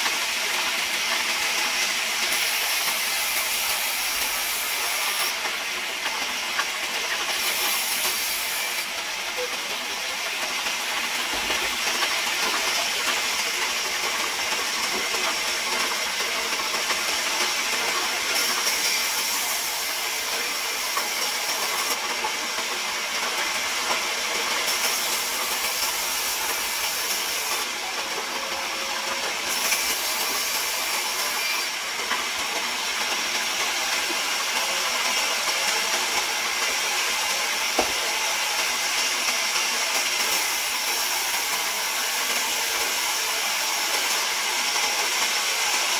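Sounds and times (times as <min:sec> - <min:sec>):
band saw cutting timber: 0:00.6 - 0:45.9.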